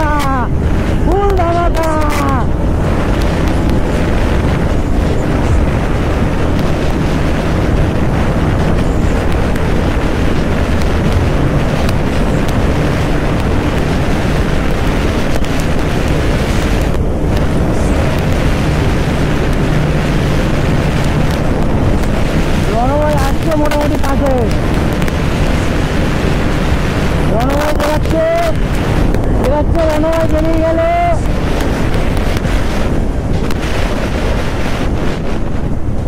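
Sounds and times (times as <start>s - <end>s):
motorcycle engine: 0.0s - 36.0s
road noise: 0.0s - 36.0s
wind buffeting microphone: 0.0s - 36.0s.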